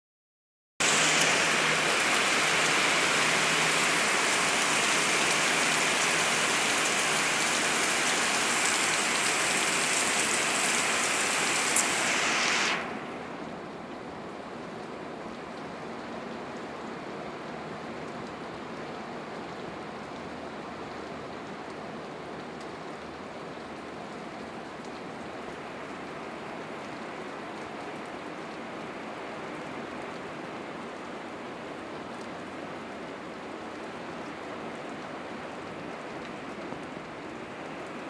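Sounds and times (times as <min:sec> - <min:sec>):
steady rain falling: 0:00.8 - 0:38.0.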